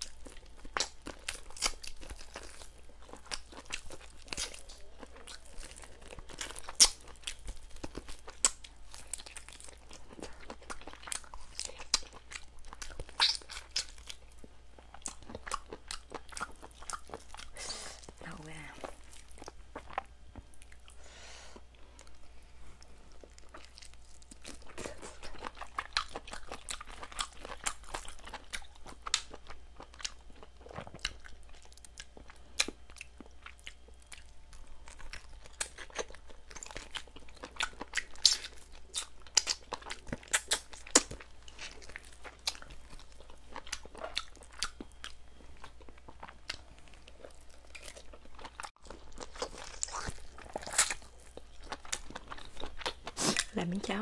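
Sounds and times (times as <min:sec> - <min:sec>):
wet chewing mouth sounds: 0:00.0 - 0:21.0, 0:21.6 - 0:54.0
steady low hum: 0:00.0 - 0:54.0.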